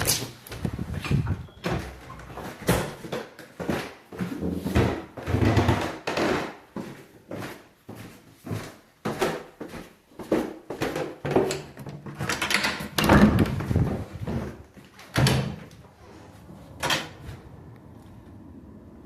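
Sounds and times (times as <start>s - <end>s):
irregular bumps and rustles: 0.0s - 16.0s.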